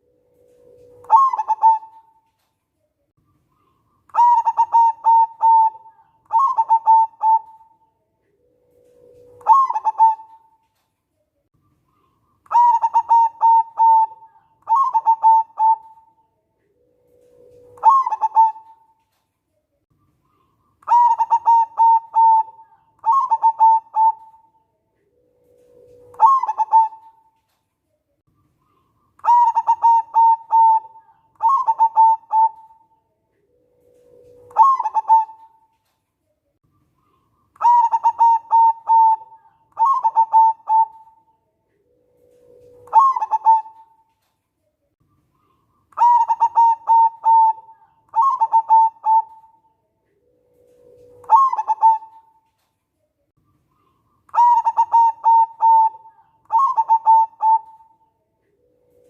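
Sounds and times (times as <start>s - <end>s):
dove cooing: 0.0s - 2.4s, 3.6s - 10.8s, 12.0s - 19.2s, 20.3s - 27.5s, 28.7s - 35.9s, 37.0s - 44.3s, 45.4s - 52.7s, 53.7s - 59.0s.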